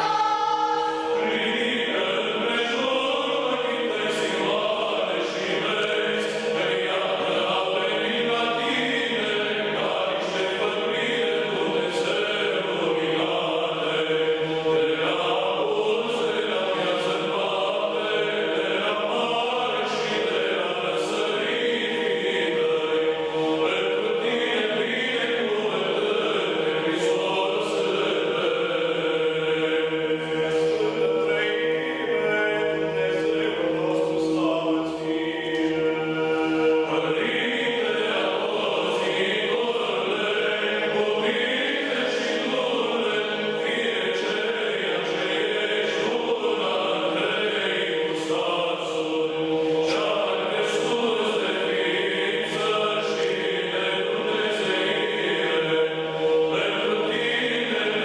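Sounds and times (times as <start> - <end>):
choir chanting: 0.0 - 58.0.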